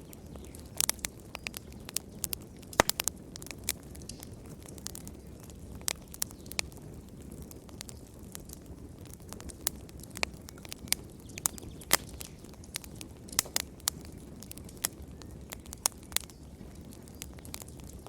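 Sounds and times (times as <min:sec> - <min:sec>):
fire crackling in fireplace: 0:00.0 - 0:18.0
sharp pops of fire: 0:00.1 - 0:18.0.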